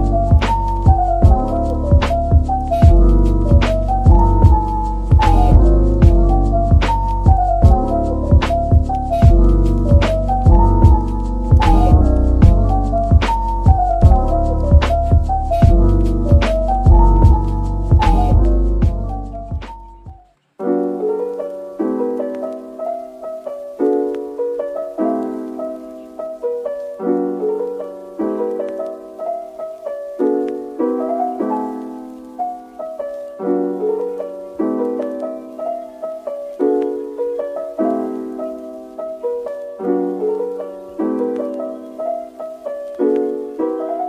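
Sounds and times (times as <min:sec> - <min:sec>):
soft piano piece: 0:00.0 - 0:44.0.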